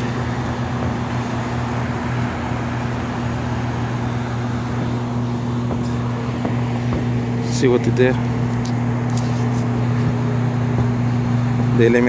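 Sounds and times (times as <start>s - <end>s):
air conditioning low hum: 0.0s - 12.0s
constant even noise: 0.0s - 12.0s.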